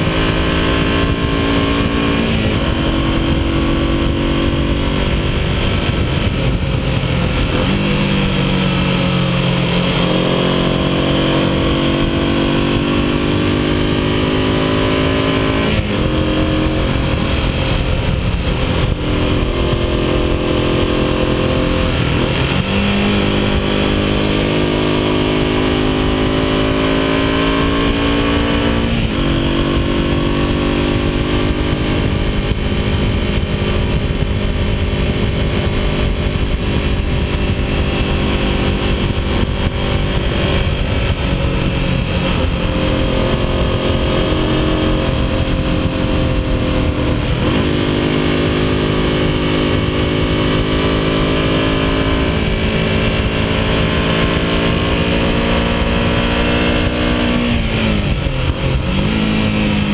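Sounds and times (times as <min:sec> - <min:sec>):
gear changes: 0:00.0 - 0:59.9
motorcycle engine running: 0:00.0 - 0:59.9
wind noise: 0:00.0 - 0:59.9.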